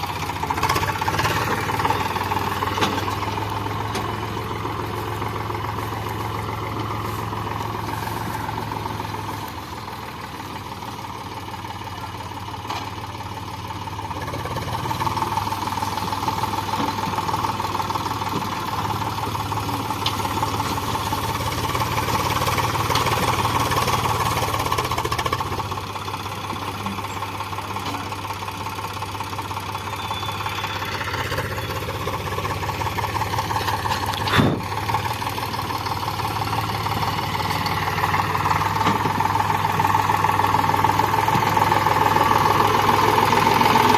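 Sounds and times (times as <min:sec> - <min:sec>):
tractor diesel engine knocking: 0:00.0 - 0:43.9.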